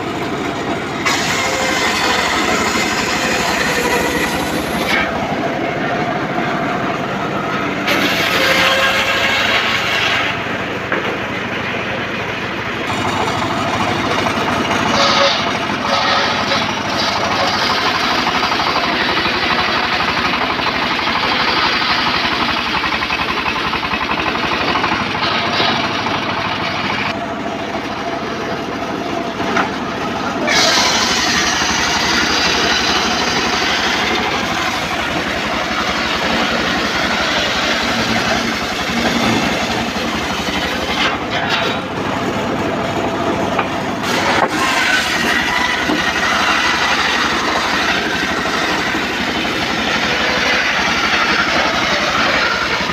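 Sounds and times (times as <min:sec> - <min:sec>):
motorised saw cutting wood: 0:00.0 - 0:52.9.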